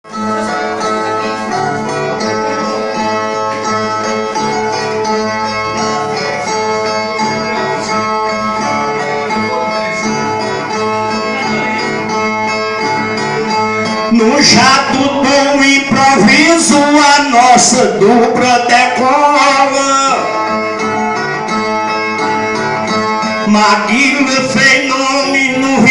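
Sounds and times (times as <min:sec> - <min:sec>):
plucked viola pattern: 0:00.0 - 0:16.3, 0:19.8 - 0:25.9.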